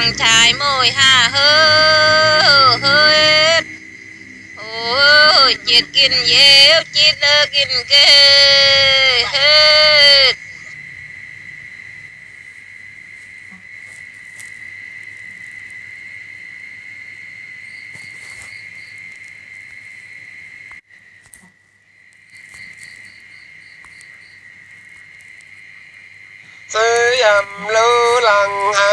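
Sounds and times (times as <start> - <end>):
insect chirps: 0.0 - 28.9
insects trilling drone: 0.0 - 28.9.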